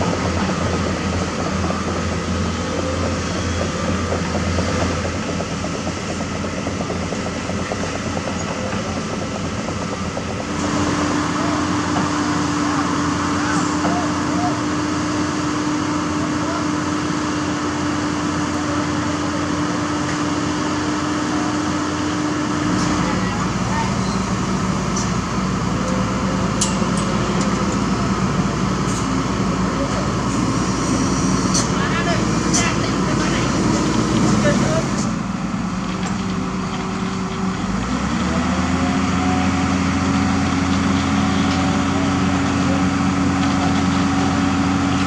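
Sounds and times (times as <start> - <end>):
diesel truck machinery droning: 0.0 - 45.0.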